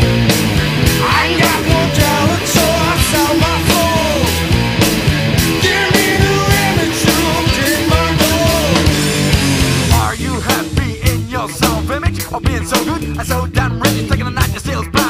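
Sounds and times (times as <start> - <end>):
drums beating: 0.0 - 15.0
rock band playing: 0.0 - 15.0.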